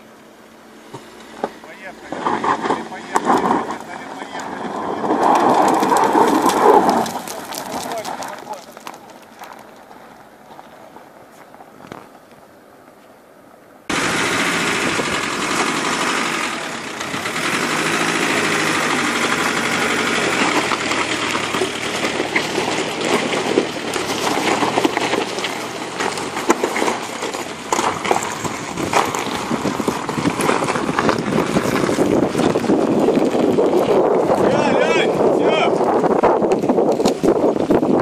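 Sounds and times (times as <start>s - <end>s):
car engine running: 0.0s - 12.6s, 13.9s - 38.0s
tyres crackling over loose stones: 0.9s - 12.4s, 13.9s - 38.0s.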